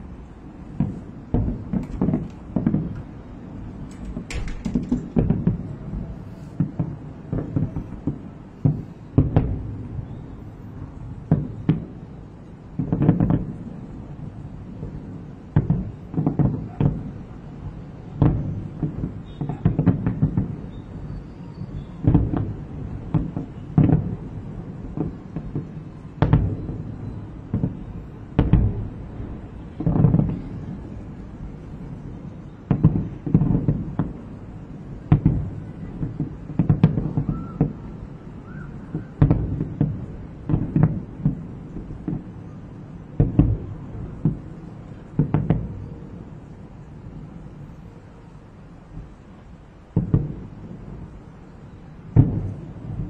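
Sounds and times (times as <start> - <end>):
distant fireworks booming: 0.0 - 53.0.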